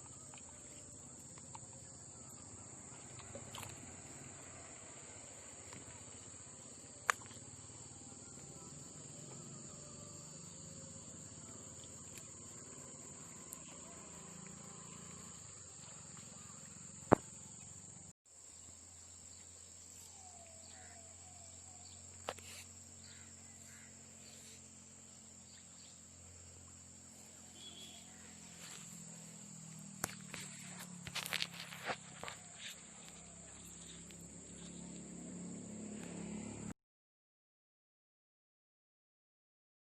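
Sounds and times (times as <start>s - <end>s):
crickets chirring: 0.0s - 36.7s.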